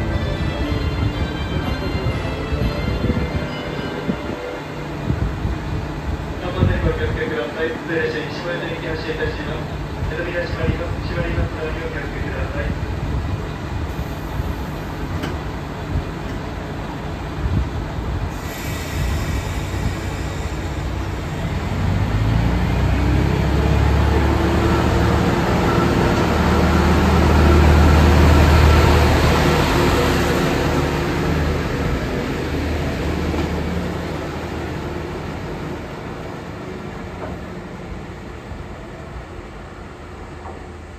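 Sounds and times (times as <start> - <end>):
diesel railcar engine running: 0.0 - 40.9.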